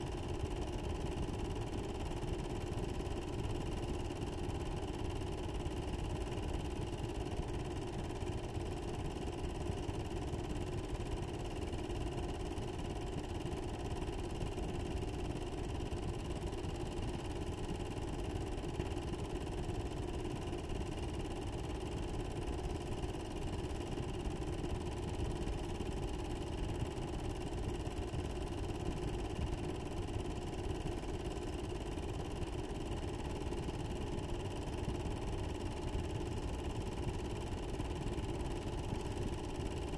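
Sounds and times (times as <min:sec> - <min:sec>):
mechanical hum with low rumble: 0:00.0 - 0:39.9.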